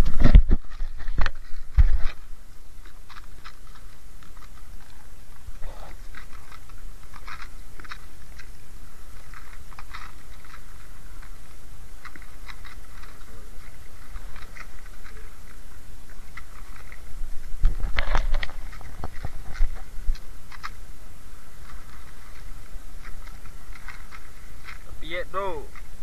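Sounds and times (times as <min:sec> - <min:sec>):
steady low rumble: 0:00.0 - 0:26.0
wet net and fish crackling: 0:00.0 - 0:26.0.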